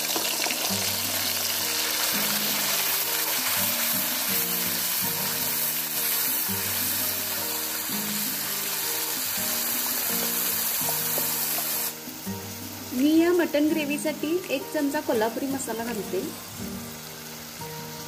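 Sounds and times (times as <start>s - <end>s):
background music with held notes: 0.0s - 18.0s
paste sizzling in hot oil: 0.0s - 18.0s.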